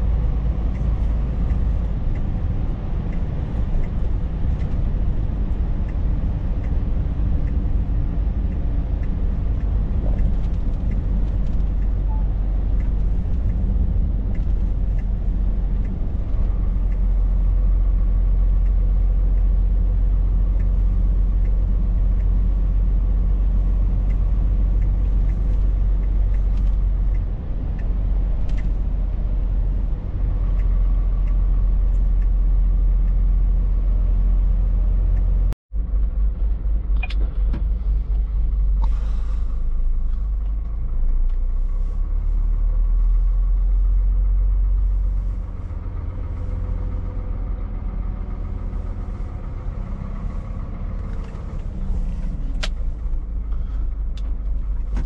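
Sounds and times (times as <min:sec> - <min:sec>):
road noise: 0:00.0 - 0:55.0
truck engine running: 0:00.0 - 0:55.0.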